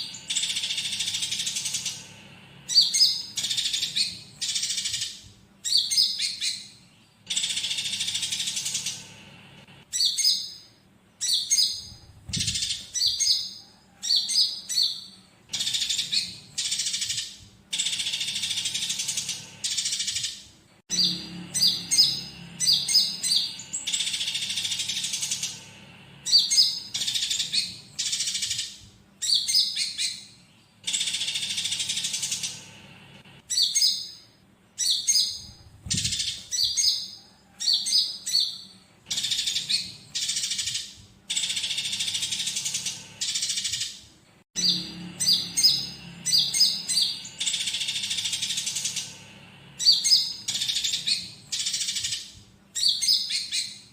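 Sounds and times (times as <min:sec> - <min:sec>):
songbird chattering song: 0:00.0 - 0:09.2, 0:09.8 - 0:44.0, 0:44.6 - 0:53.9
harsh calls of sparrows: 0:00.0 - 0:53.9.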